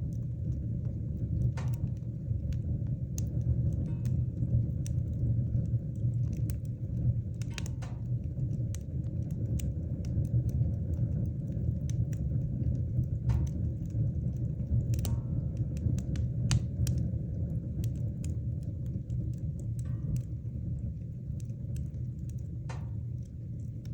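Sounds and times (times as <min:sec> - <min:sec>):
fire low rumble: 0:00.0 - 0:23.9
logs crackling and popping: 0:00.0 - 0:23.9.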